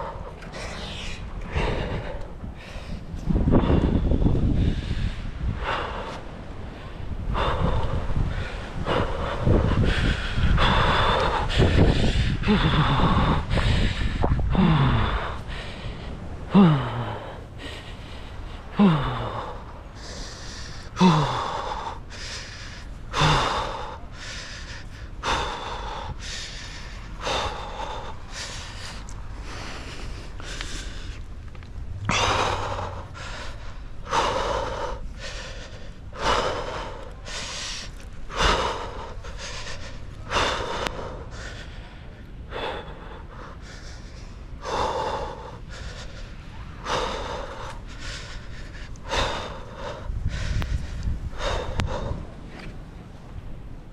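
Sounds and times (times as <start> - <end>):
person breathing heavily: 0.0 - 52.7.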